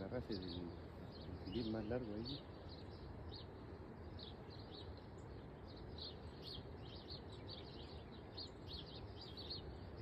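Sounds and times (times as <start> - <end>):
birds chirping: 0.0 - 10.0
faint low background noise: 0.0 - 10.0.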